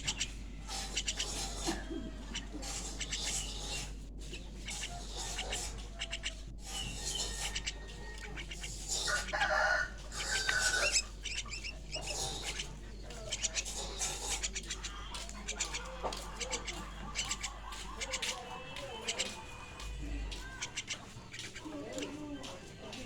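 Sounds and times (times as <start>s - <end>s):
starling chicks chirping: 0.0s - 23.0s.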